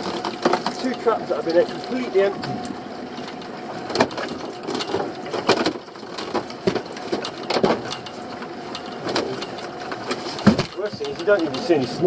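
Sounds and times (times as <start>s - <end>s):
boat engine humming: 0.0s - 12.0s
fishing gear knocking and clattering: 0.0s - 12.0s.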